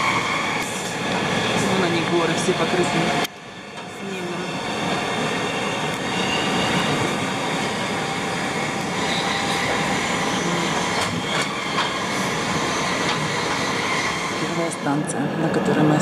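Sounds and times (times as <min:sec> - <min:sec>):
train running noise from inside: 0:00.0 - 0:16.0.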